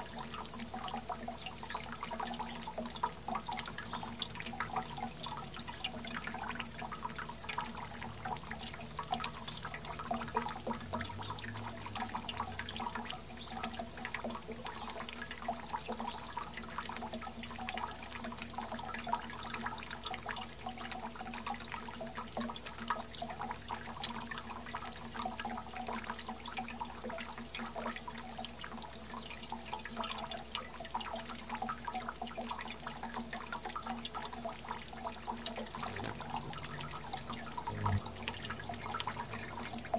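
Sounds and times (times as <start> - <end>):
faint steady hum: 0.0 - 39.9
fountain water splashing: 0.0 - 39.9.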